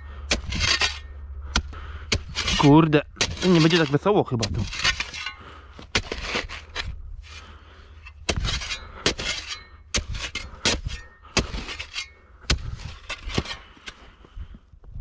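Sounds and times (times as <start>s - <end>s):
spade chopping frozen sand: 0.2s - 6.8s, 8.2s - 13.8s.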